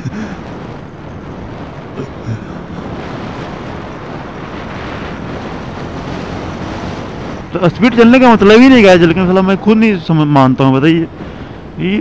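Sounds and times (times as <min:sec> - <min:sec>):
rush of riding wind: 0:00.0 - 0:12.0.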